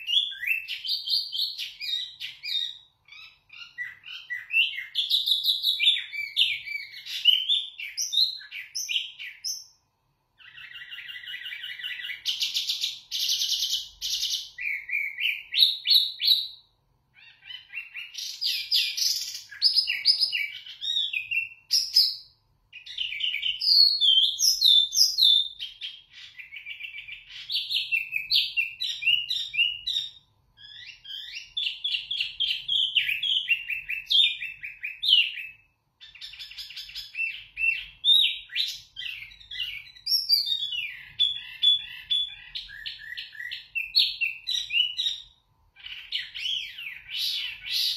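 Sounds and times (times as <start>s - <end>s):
bird singing whistled notes: 0.0s - 9.8s, 10.4s - 47.9s.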